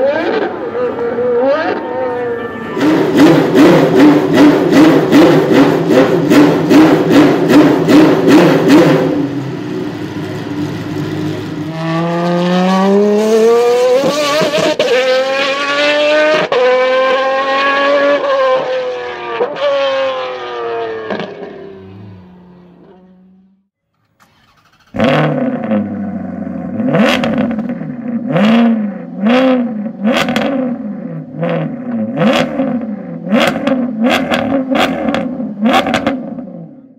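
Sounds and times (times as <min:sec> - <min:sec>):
car accelerating with gear changes: 0:00.0 - 0:23.6, 0:24.2 - 0:36.8
car engine revving: 0:00.0 - 0:36.9.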